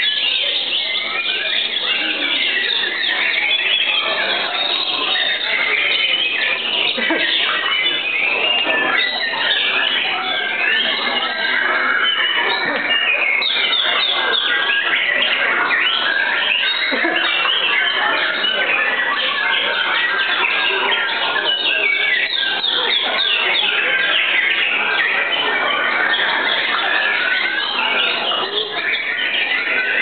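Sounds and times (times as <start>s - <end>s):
birds singing rapid whistles: 0.0s - 30.0s.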